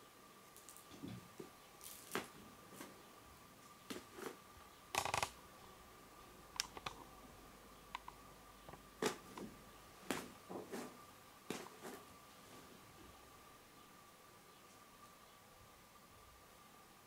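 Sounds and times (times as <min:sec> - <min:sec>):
faint high hum: 0:00.0 - 0:17.0.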